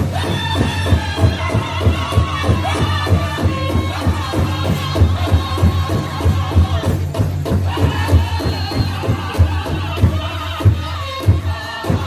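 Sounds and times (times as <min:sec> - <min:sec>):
group singing: 0:00.0 - 0:12.0
large drum beat: 0:00.0 - 0:12.0.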